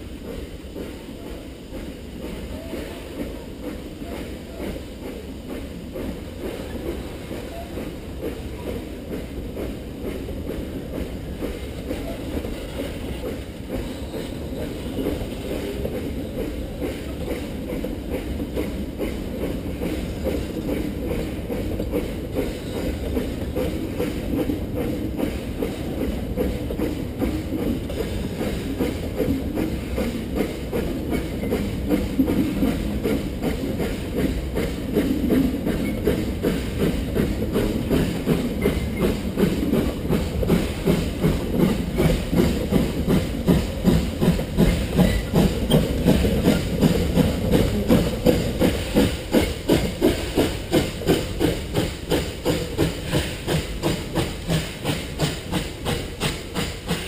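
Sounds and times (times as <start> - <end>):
steam hiss: 0.0 - 57.0
steam locomotive exhaust chuffs: 0.0 - 57.0.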